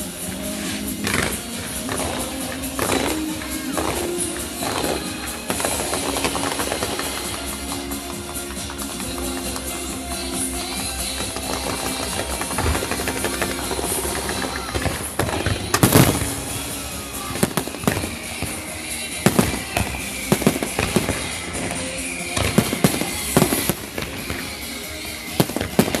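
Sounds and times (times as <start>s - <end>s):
fireworks bangs and crackles: 0.0s - 26.0s
music soundtrack: 0.0s - 26.0s.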